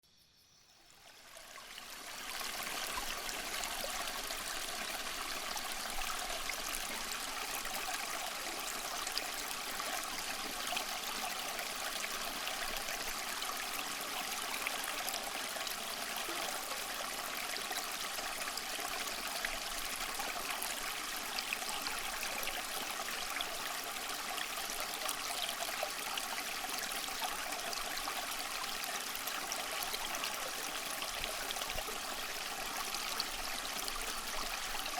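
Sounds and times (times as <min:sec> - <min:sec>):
stream water trickling: 0:00.1 - 0:34.9.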